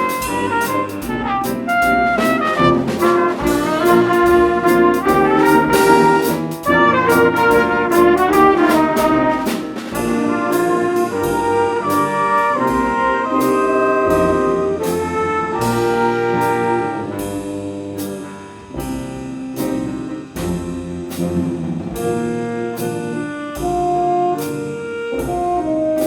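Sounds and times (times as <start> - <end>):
brass band playing: 0.0 - 26.0
drum and cymbal hits: 0.0 - 26.0.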